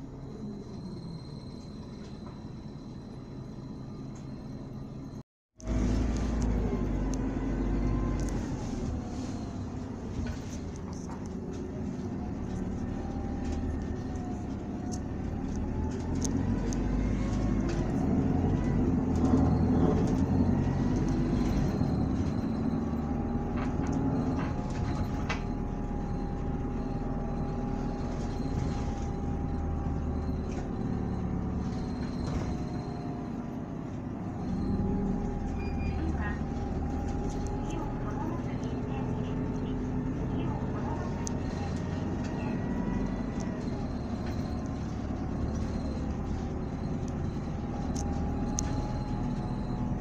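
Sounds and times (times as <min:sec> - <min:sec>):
bus diesel engine drone: 0:00.0 - 0:50.0.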